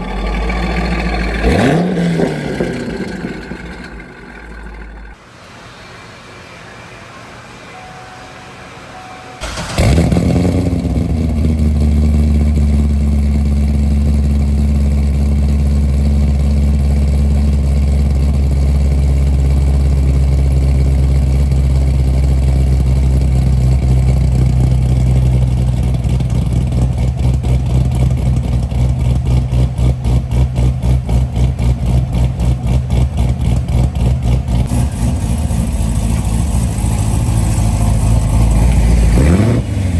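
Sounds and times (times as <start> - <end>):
car engine starting and idling: 0.0 - 5.2, 7.1 - 39.9.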